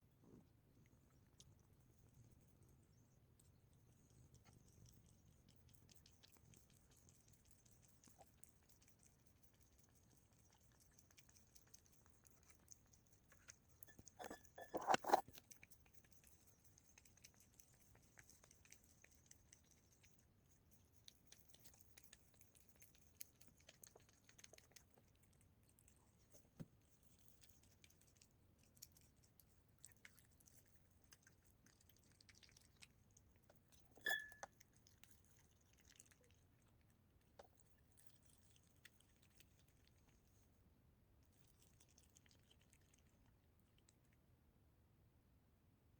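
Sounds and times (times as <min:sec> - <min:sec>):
cat chewing food: 0:00.0 - 0:45.7.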